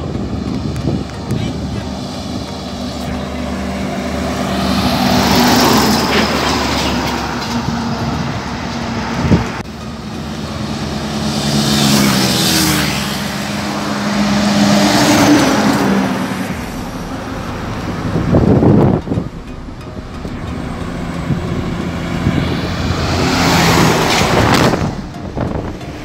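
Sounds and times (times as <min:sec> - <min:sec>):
diesel trucks passing: 0:00.0 - 0:26.0
motorcycles passing: 0:00.0 - 0:26.0.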